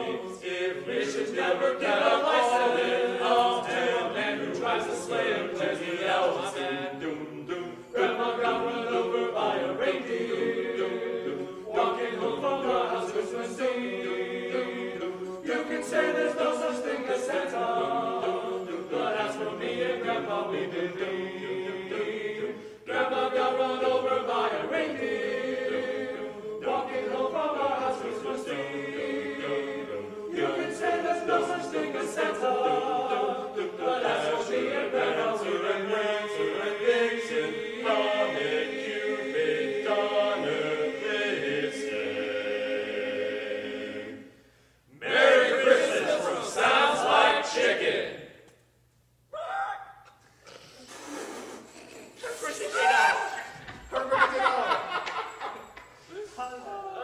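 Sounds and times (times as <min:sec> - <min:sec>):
men's choir singing a cappella: 0:00.0 - 0:48.4.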